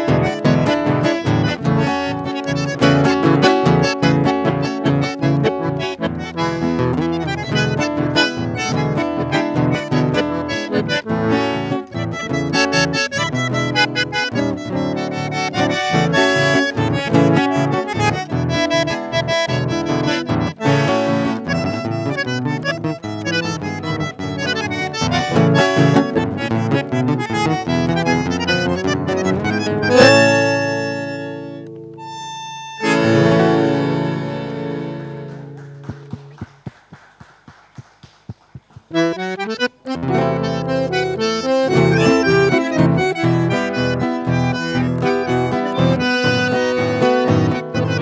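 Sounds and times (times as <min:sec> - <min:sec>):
bandoneon melody: 0:00.0 - 0:36.4, 0:38.9 - 0:48.0
acoustic guitars: 0:00.0 - 0:36.9, 0:38.0 - 0:48.0.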